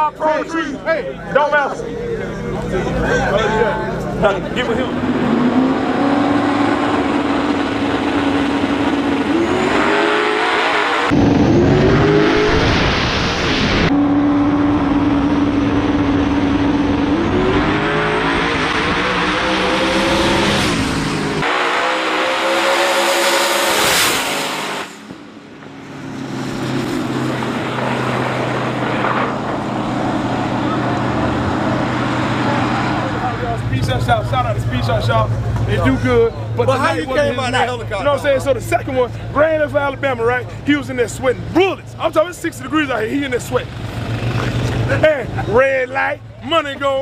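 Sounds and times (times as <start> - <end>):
racing car engines revving: 0.0 - 47.0.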